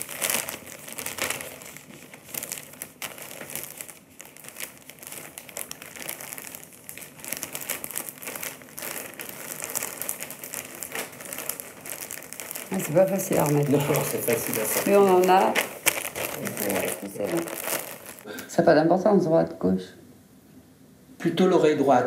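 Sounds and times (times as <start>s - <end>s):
cloth rustling: 0.0s - 18.3s
plastic wrapping crinkling: 0.0s - 18.4s.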